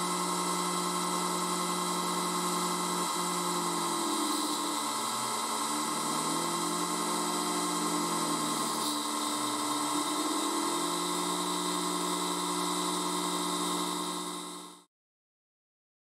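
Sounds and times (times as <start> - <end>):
milling machine cutting whine: 0.0 - 14.9.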